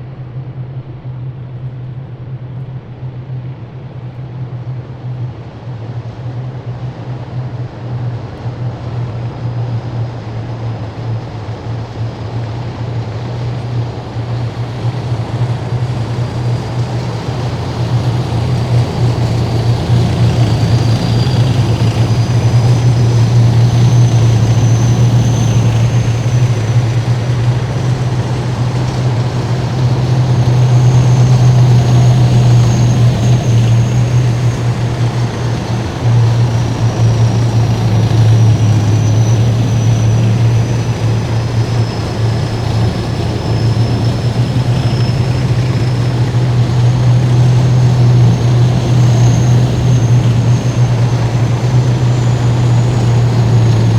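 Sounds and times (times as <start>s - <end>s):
heavy vehicle engines droning: 0.0s - 53.9s.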